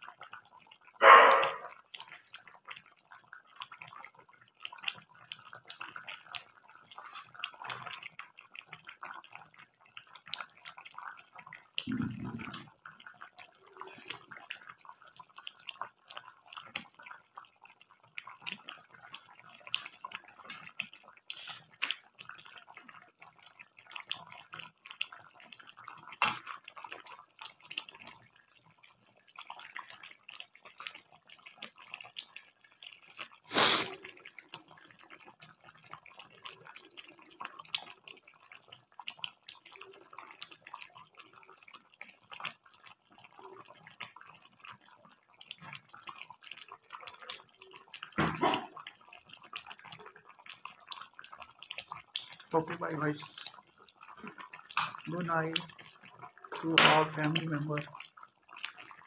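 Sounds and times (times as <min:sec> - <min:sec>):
curry simmering and bubbling: 0:00.0 - 0:59.0.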